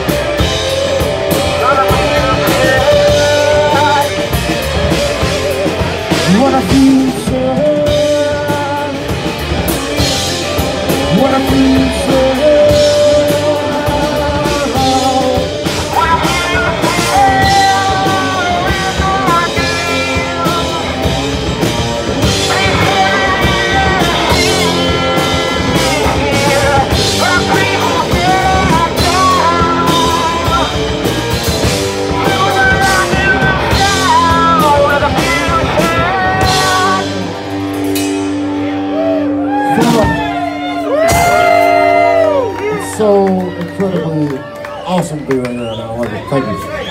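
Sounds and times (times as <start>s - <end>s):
drum kit: 0.0s - 44.4s
electric guitars: 0.0s - 46.9s.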